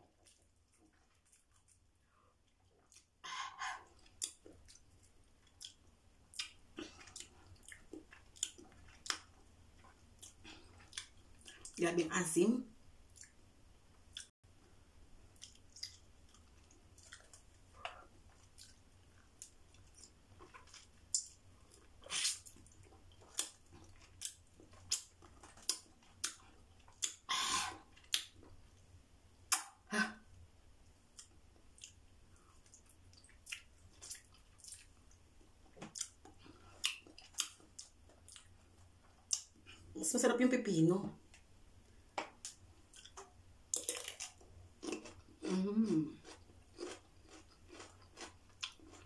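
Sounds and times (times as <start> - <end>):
person chewing raw vegetables: 0.0 - 11.8, 13.1 - 13.4, 15.3 - 28.6, 31.1 - 39.8, 42.3 - 49.0.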